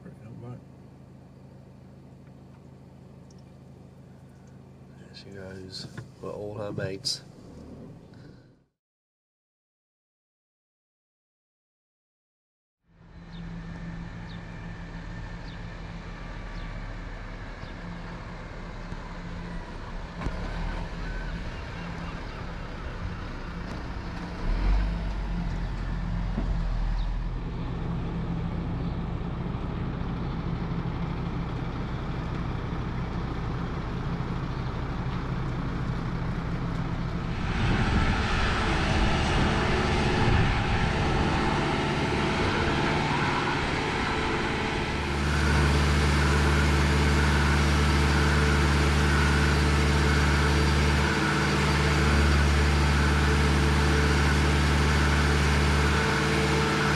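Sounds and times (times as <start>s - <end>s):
heavy diesel engines running: 0.0s - 8.6s, 12.9s - 56.9s
low engine hum up close: 0.0s - 8.7s, 12.9s - 56.9s.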